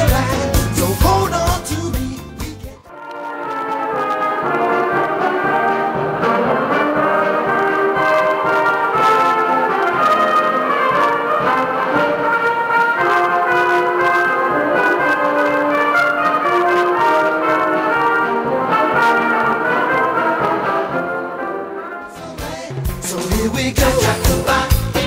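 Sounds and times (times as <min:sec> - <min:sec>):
wind band playing: 0:00.0 - 0:23.2.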